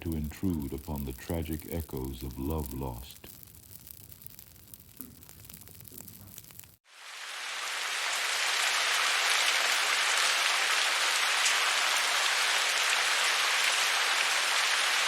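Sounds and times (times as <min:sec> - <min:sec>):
heavy rain falling: 0:00.0 - 0:03.4, 0:04.9 - 0:15.0.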